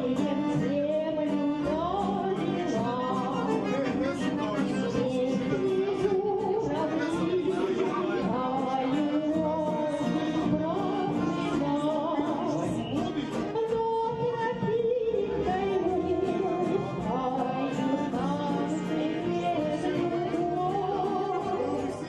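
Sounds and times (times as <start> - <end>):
music with singing voice: 0.0 - 22.0.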